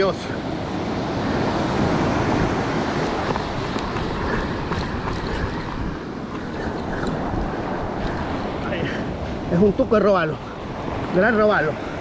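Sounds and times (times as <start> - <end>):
surf washing up a beach: 0.0 - 12.0
wind buffeting the microphone: 0.0 - 12.0.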